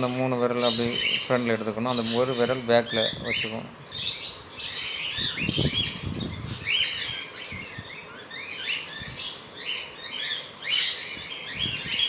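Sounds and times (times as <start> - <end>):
parrot chick chirping: 0.0 - 12.0.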